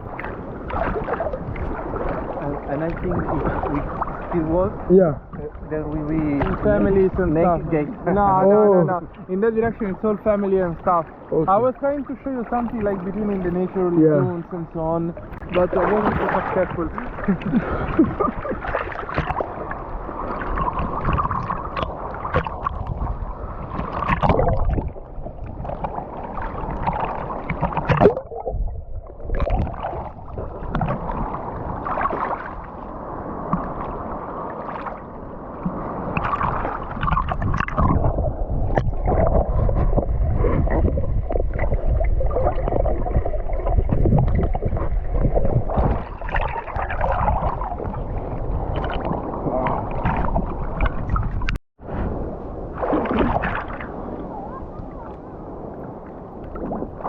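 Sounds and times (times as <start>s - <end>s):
sea water sloshing and splashing: 0.0s - 57.0s.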